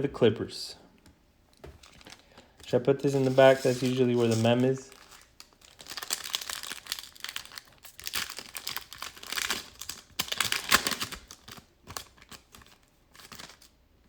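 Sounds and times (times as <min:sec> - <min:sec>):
plastic wrapper crinkling: 0:01.6 - 0:13.8.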